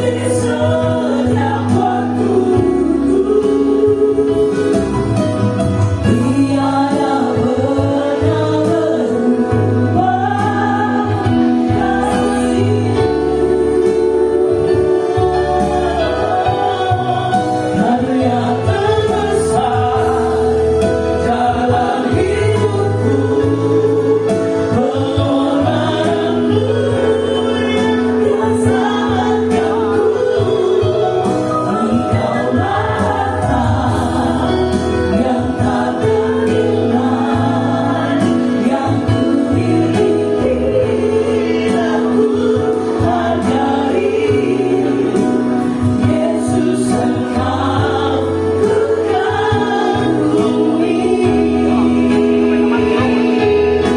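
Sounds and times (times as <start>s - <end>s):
choir singing: 0.0s - 53.9s
instrumental accompaniment: 0.0s - 53.9s.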